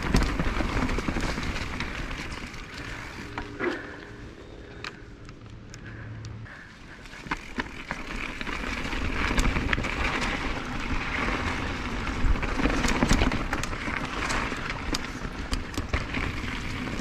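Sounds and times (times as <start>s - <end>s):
bike chain and frame clattering: 0.0s - 6.0s, 6.8s - 17.0s
bike tyres rushing over dirt: 0.0s - 17.0s.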